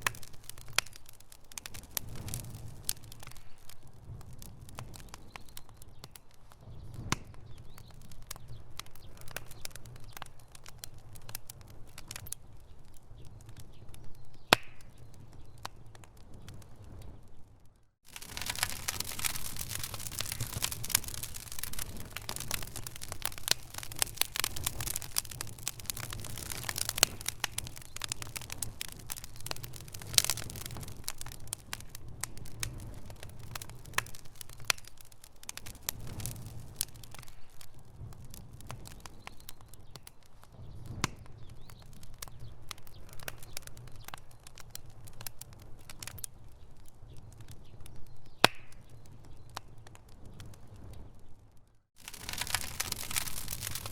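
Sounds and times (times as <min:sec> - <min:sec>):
fire crackling: 0:00.0 - 0:53.9.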